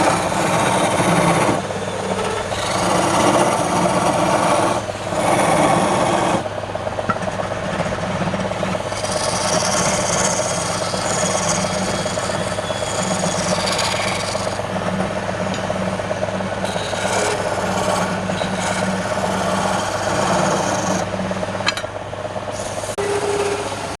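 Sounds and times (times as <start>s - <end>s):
tool scraping spinning wood: 0.0s - 21.8s
wood lathe motor hum: 0.0s - 21.8s.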